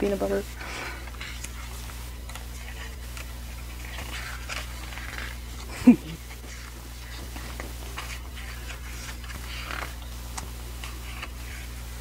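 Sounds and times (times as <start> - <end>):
book pages turning: 0.8 - 12.0.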